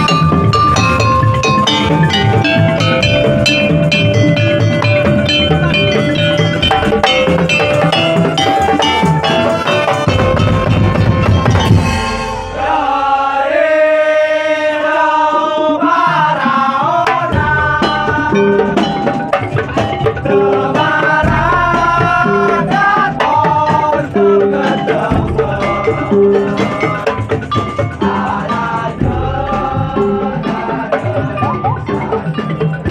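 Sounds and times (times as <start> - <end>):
wavering melody line: 0.0 - 13.5, 17.1 - 32.9
drums and percussion beat: 0.0 - 32.9.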